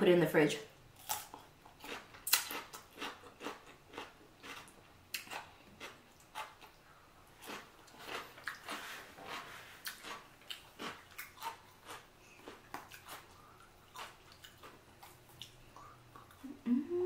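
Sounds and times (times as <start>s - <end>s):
person chewing food: 1.0s - 16.5s.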